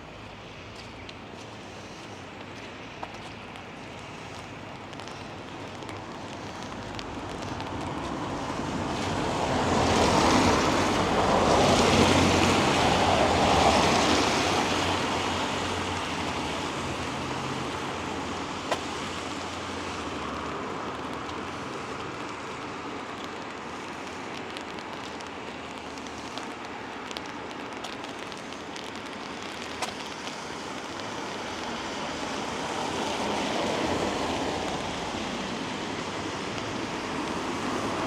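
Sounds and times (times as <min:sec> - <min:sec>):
light rain: 0:00.0 - 0:38.0
vehicle passing on wet road: 0:00.0 - 0:38.0.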